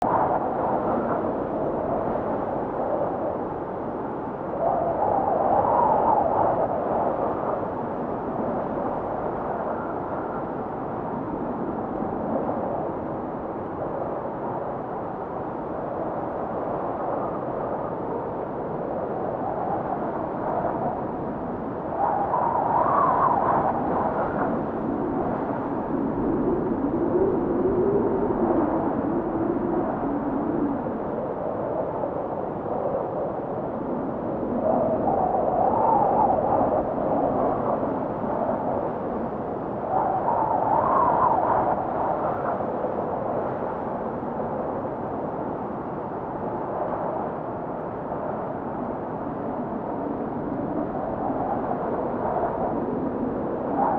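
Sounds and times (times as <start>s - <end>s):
snowstorm wind rushing: 0.0s - 53.9s
wind howling: 0.0s - 53.9s.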